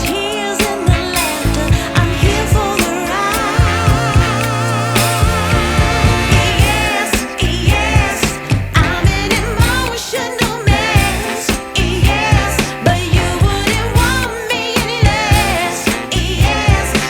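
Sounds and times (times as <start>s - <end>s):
pop song with sung vocal: 0.0s - 17.0s.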